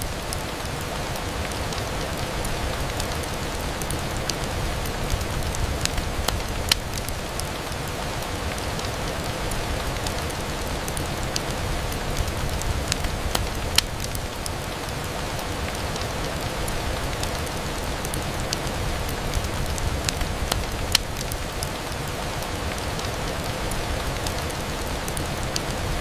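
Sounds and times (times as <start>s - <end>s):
rain on window glass: 0.0s - 26.0s.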